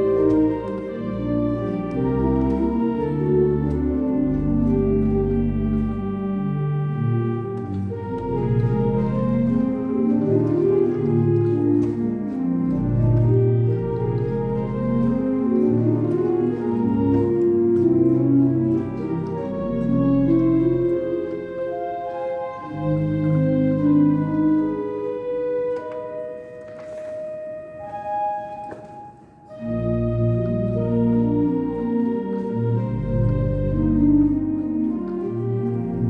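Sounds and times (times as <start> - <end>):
pipe organ chords: 0.0 - 36.0.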